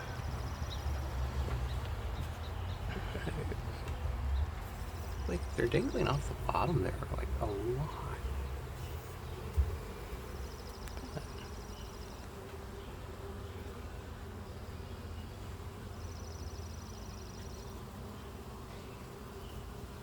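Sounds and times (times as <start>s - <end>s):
bees buzzing in a swarm: 0.0s - 20.0s.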